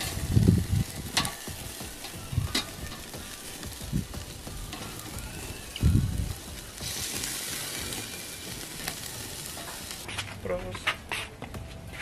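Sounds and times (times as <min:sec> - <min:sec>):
meat sizzling over charcoal: 0:00.0 - 0:10.2.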